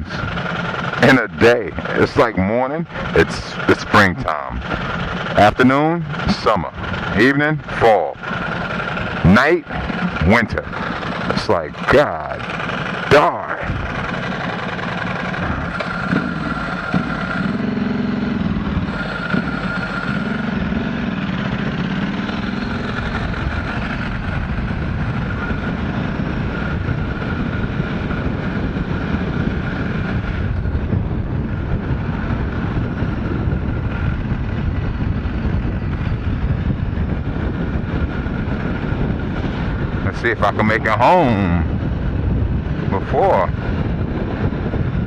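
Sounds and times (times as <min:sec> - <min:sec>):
motorcycle engine: 0:00.0 - 0:45.0.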